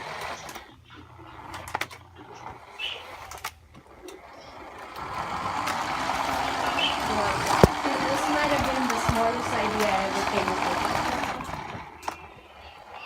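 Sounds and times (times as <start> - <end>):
toy car motor whirring: 0.0 - 13.0.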